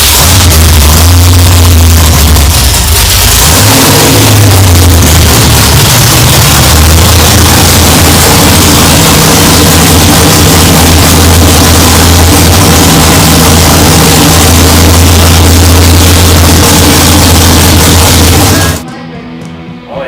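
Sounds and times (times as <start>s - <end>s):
car engine running loud: 0.0s - 18.8s.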